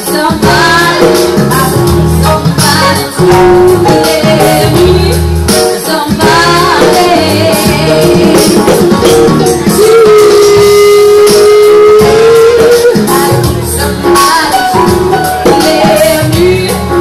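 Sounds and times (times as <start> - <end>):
electric bass: 0.0 - 17.0
electric keyboard: 0.0 - 17.0
woman singing: 0.0 - 17.0.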